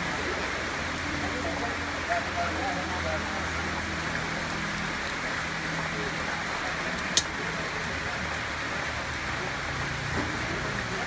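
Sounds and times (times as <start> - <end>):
frying hiss: 0.0 - 11.0.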